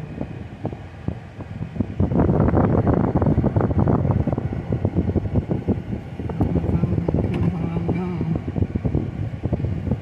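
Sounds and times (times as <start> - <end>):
car rumble from inside cabin: 0.0 - 10.0.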